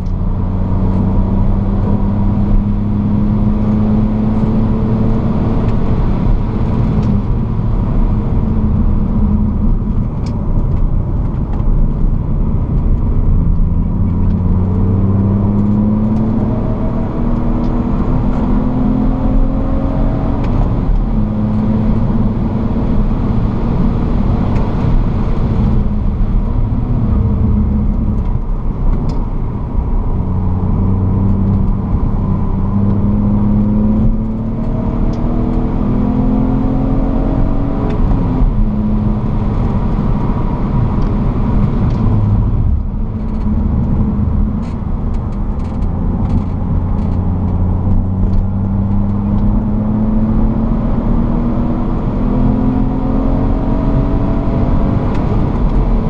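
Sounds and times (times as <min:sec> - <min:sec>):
car engine revving: 0:00.0 - 0:56.0
tyre and wind noise: 0:00.0 - 0:56.0.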